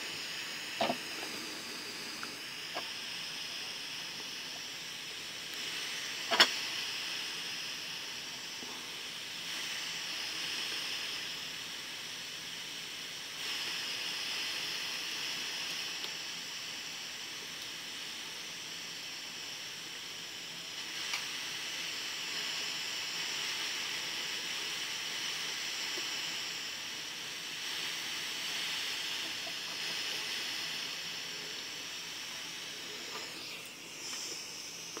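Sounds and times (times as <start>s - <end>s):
hot air nozzle hissing: 0.0s - 35.0s.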